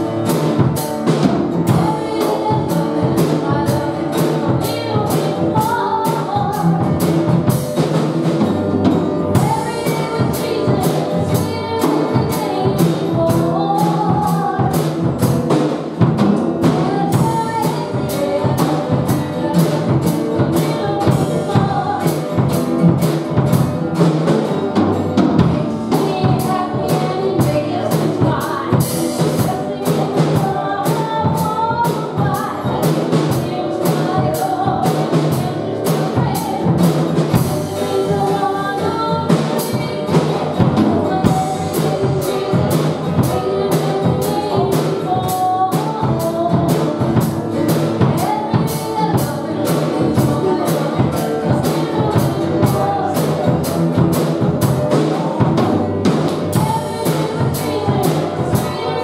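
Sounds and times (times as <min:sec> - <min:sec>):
woman singing worship song: 0:00.0 - 0:07.9, 0:09.2 - 0:59.0
strummed acoustic guitar: 0:00.0 - 0:59.0.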